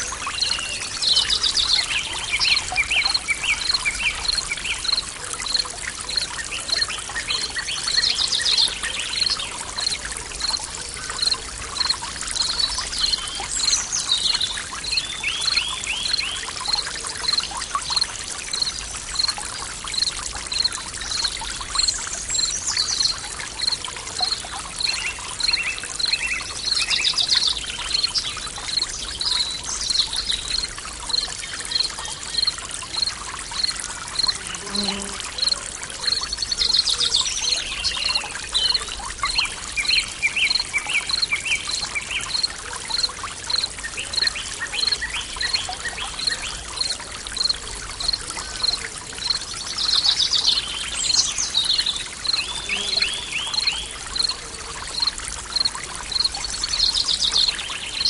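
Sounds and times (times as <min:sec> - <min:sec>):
stream running: 0:00.0 - 0:58.0.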